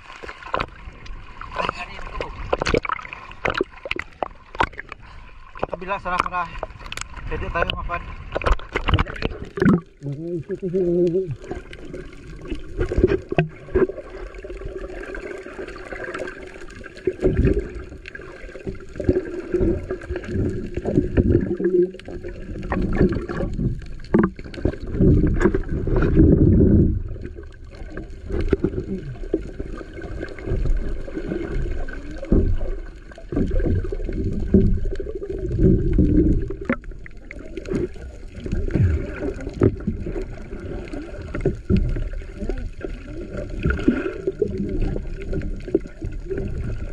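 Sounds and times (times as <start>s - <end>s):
underwater water surges: 0.0s - 46.9s
underwater knocks: 0.5s - 5.0s, 5.6s - 10.0s, 11.3s - 14.2s, 18.6s - 46.9s.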